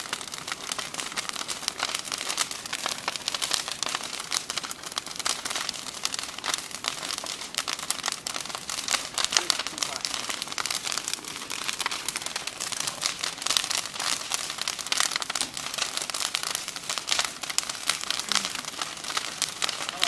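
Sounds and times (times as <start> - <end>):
bonfire crackling: 0.0 - 20.0.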